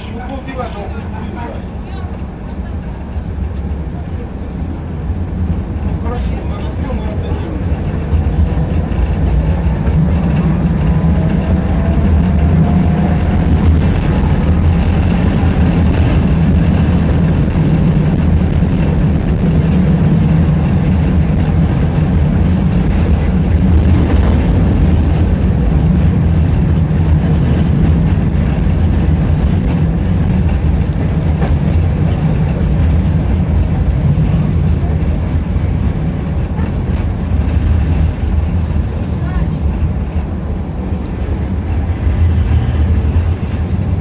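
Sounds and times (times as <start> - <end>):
tram wheels rumbling on rails: 0.0 - 44.0.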